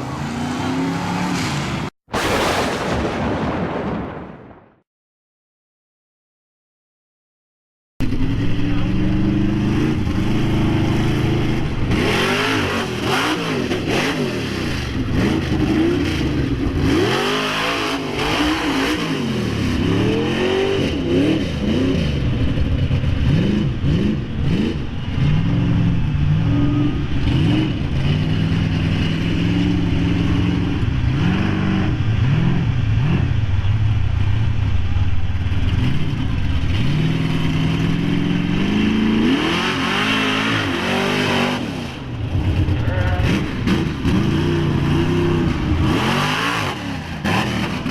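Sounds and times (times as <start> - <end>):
truck engine revving: 0.0 - 2.4, 8.0 - 47.9.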